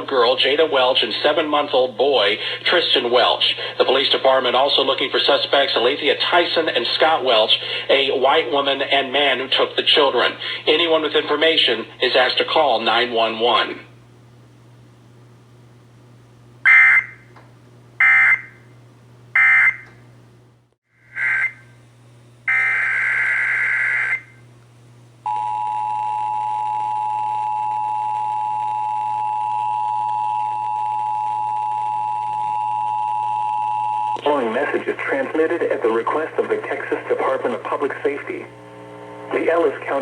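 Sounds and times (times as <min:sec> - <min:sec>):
low mains hum: 0:00.0 - 0:40.0.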